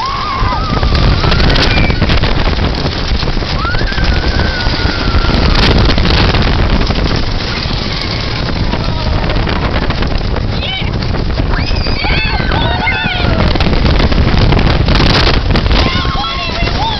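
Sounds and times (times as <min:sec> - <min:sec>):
roller coaster rattling rumble: 0:00.0 - 0:16.9
wind rushing over microphone: 0:00.0 - 0:16.9.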